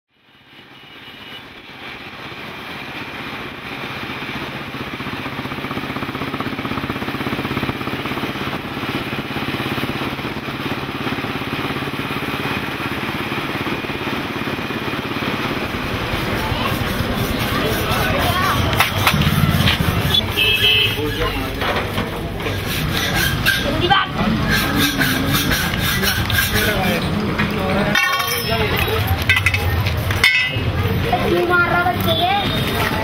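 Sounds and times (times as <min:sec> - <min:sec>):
motor engine running: 0:01.6 - 0:33.0.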